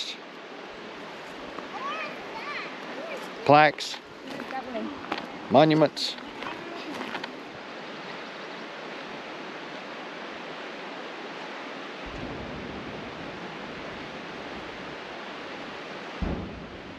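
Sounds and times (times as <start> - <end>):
steady rushing noise: 0.0 - 16.9.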